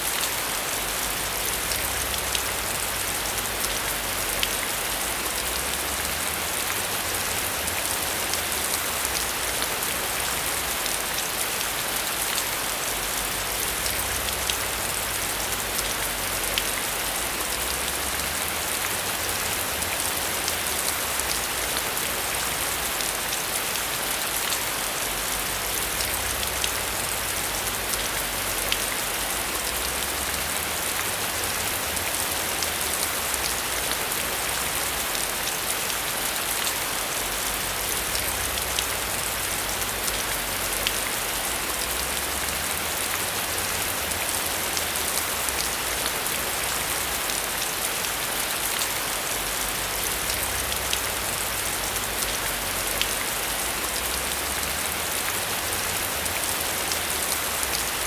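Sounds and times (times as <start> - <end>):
raindrops ticking close by: 0.1 - 58.0.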